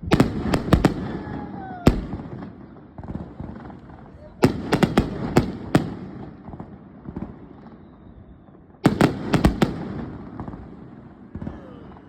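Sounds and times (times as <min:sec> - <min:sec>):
fireworks bangs and pops: 0:00.0 - 0:12.0
rumble of fireworks: 0:00.0 - 0:12.0.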